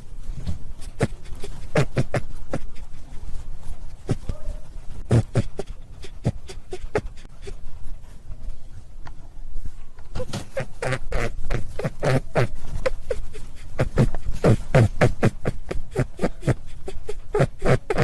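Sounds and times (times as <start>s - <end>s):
rabbit low-pitched sounds: 0.0s - 18.0s
rabbit clicking: 0.6s - 7.6s, 10.0s - 18.0s.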